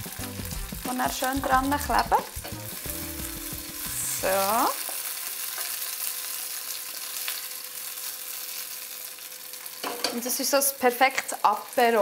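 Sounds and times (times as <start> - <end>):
insects frying in hot oil: 0.0 - 12.0.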